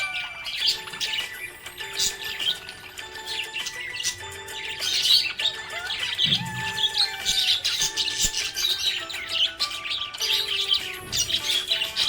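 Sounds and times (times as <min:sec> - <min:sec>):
budgerigar chirping and warbling: 0:00.0 - 0:12.0.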